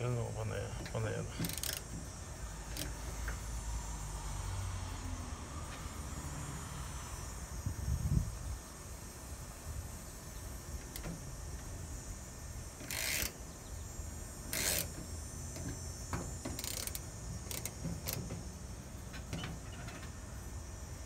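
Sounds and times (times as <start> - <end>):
refrigerant valve hissing: 0.0 - 4.8, 8.4 - 21.0.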